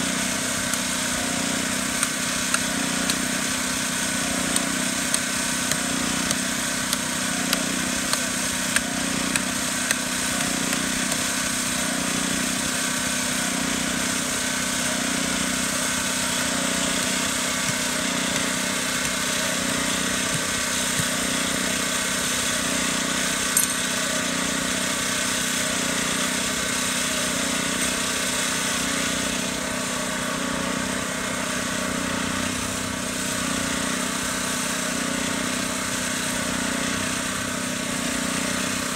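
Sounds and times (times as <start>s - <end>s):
small engine running steadily: 0.0s - 38.9s.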